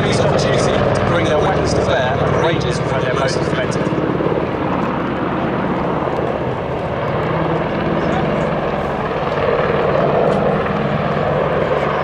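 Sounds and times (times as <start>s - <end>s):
helicopter engine noise: 0.0s - 12.0s
helicopter rotor beating: 0.0s - 12.0s.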